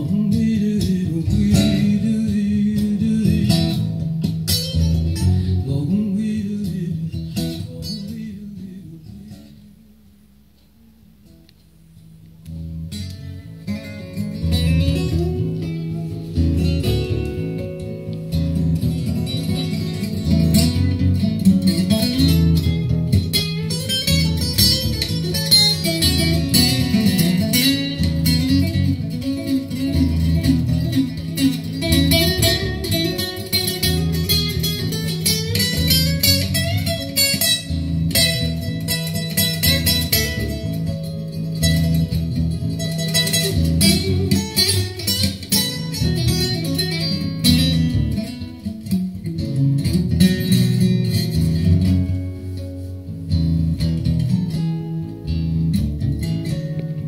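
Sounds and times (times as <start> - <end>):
bass notes: 0.0 - 57.0
instrumental guitar music: 0.0 - 57.0.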